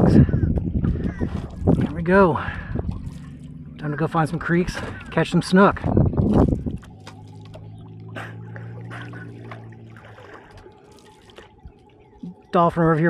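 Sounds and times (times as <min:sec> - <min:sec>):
low steady hum: 0:00.0 - 0:13.0
small water splashes: 0:00.5 - 0:13.0
water trickling and dripping: 0:00.5 - 0:13.0.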